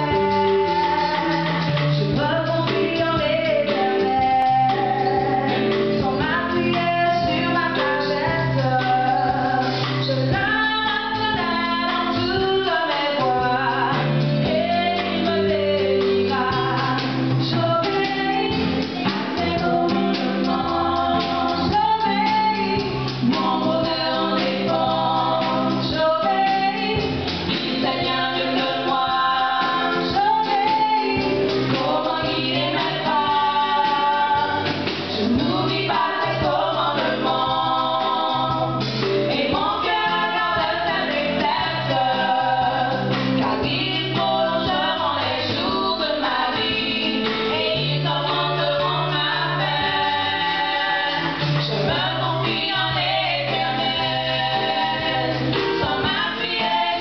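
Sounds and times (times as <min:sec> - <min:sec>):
women singing gospel song: 0:00.0 - 0:57.0.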